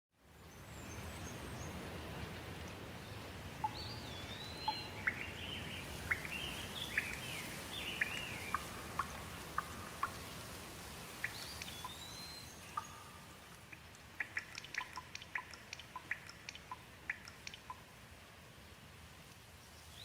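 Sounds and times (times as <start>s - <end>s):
rain hiss: 0.3s - 20.0s
bird singing: 0.4s - 10.4s, 11.2s - 17.8s.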